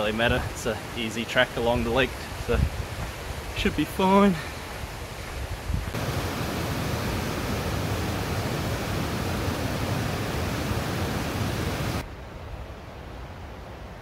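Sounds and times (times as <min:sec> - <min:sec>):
river rushing over boulders: 0:00.0 - 0:14.0.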